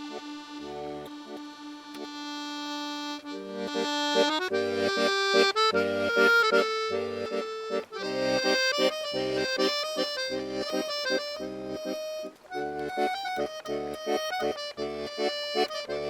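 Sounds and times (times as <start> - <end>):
accordion chords: 0.0 - 16.0.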